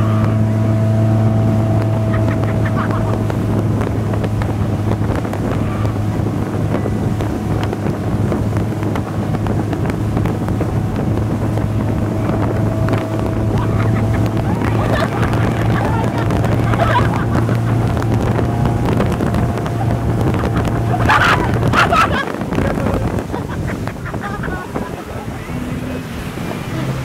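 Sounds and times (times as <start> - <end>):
motorboat engine droning: 0.0 - 27.0
wake rushing: 0.0 - 27.0
wind buffeting microphone: 0.0 - 27.0.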